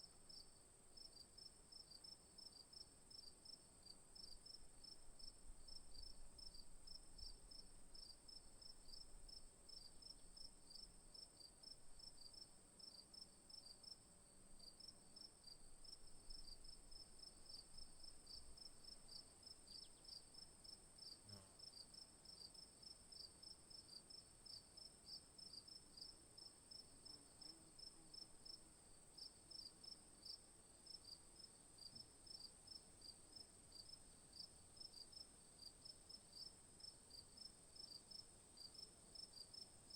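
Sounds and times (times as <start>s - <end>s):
insect chorus buzzing and chirping: 0.1s - 39.9s.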